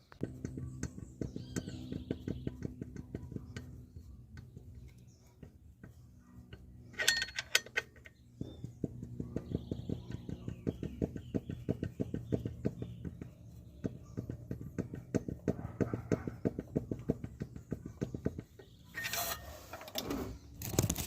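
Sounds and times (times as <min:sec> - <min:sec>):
car engine idling with ticking knock: 0:00.1 - 0:06.8, 0:08.2 - 0:18.8.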